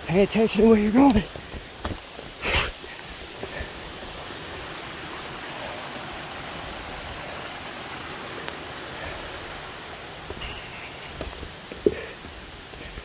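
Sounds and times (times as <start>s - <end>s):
rushing stream: 0.0s - 13.0s.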